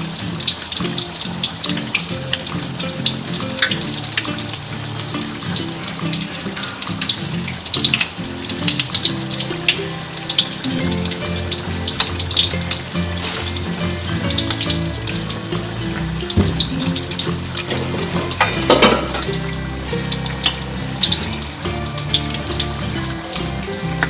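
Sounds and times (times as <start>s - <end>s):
background music: 0.0s - 24.0s
food frying in hot oil: 0.0s - 24.0s.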